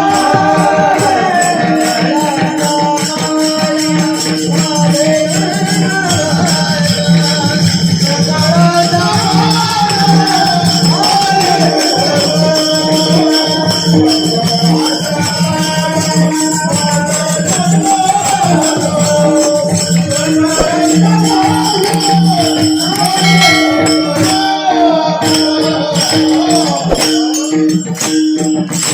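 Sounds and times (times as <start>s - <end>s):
devotional singing: 0.0s - 28.9s
jingling hand percussion: 0.0s - 28.9s.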